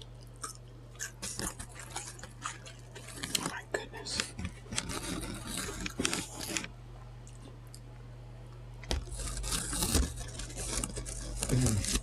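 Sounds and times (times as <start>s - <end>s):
chewing and crunching sandwich: 0.0s - 12.0s.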